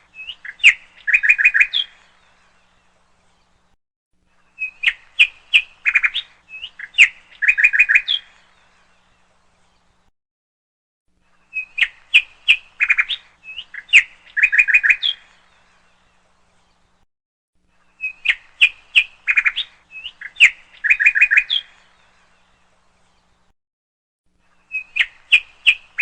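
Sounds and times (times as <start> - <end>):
bird chirping: 0.0 - 10.1, 11.3 - 17.0, 17.7 - 23.5, 24.4 - 26.0.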